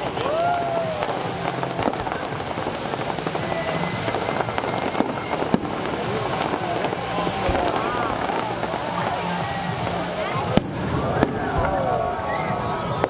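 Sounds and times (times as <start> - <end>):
fireworks bursting and crackling: 0.0 - 13.0
music: 0.0 - 13.0.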